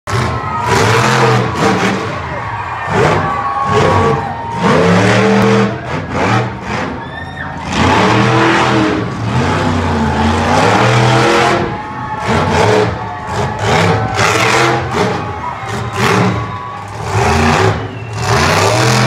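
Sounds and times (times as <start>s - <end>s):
truck engine revving: 0.1s - 19.0s.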